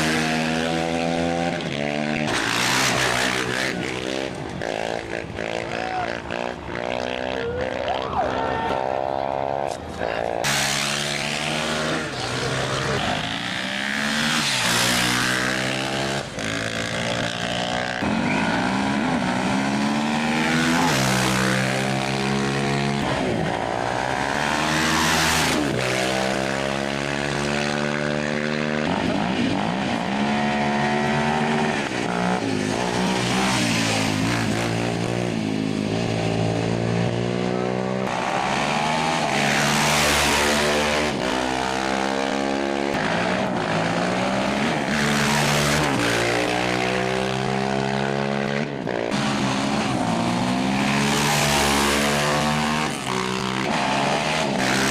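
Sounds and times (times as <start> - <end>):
motorcycle engines accelerating: 0.0 - 54.9.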